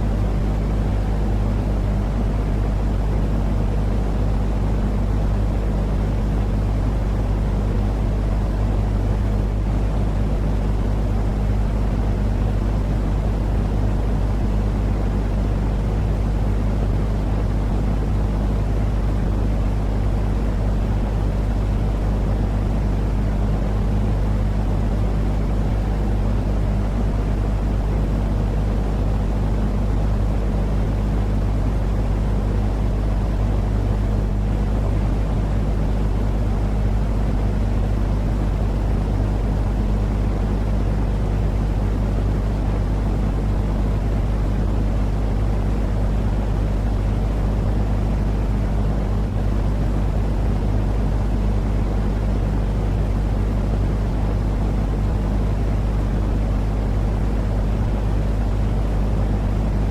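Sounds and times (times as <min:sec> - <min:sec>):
low rumbling noise with hum: 0:00.0 - 0:59.9.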